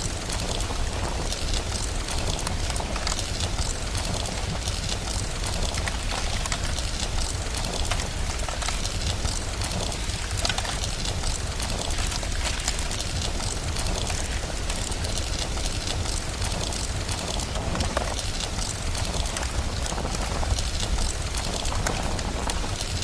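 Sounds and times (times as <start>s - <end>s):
fireplace crackling: 0.0s - 23.0s
rain hiss: 0.0s - 23.0s.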